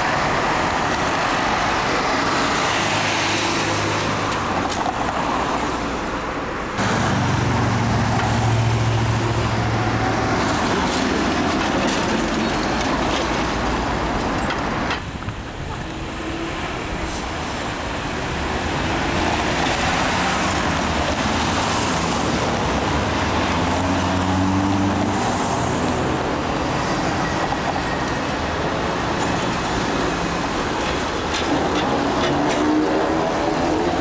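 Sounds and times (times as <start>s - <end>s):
road traffic: 0.0s - 34.0s
trolleybus passing: 0.0s - 34.0s.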